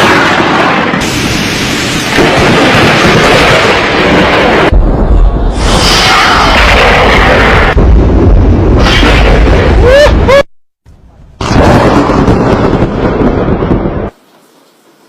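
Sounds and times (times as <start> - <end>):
thunder crash: 0.0 - 10.5, 11.4 - 14.2.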